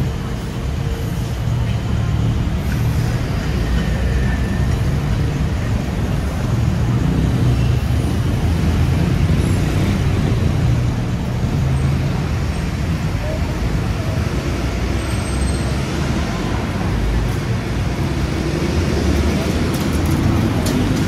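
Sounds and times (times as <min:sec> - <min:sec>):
tyre and road noise: 0:00.0 - 0:21.0
vehicle engines rumbling: 0:00.0 - 0:21.0.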